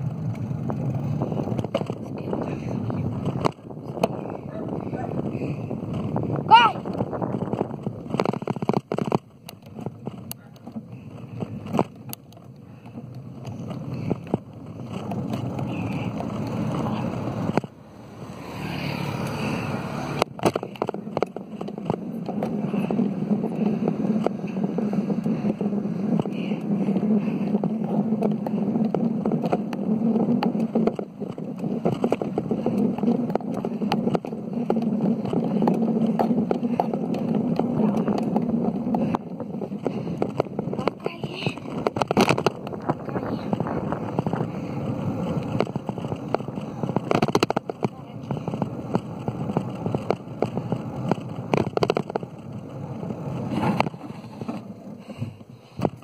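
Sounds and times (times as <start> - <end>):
phone and bike rattles: 0.0 - 56.0
wind buffeting microphone: 0.0 - 56.0.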